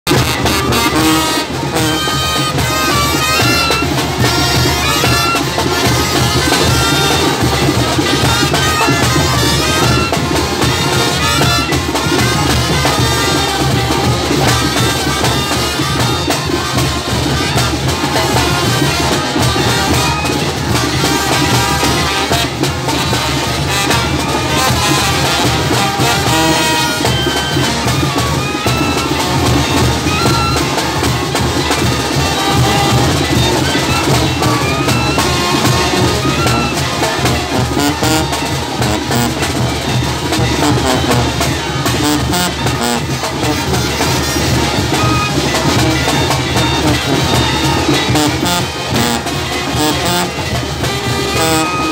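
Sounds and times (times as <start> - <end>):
brass band playing: 0.0 - 51.9
drums: 0.0 - 51.9
sousaphone: 0.1 - 51.9.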